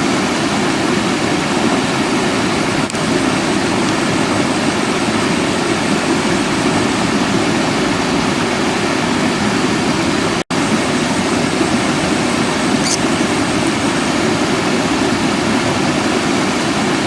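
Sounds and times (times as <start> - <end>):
rush of running water: 0.0 - 17.0.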